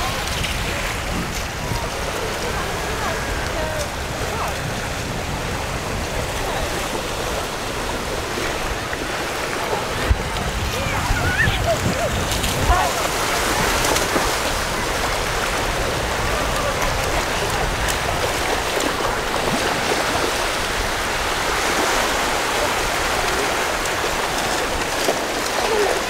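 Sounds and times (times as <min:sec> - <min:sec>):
sea water splashing: 0:00.0 - 0:26.0
small waves washing in: 0:00.0 - 0:26.0.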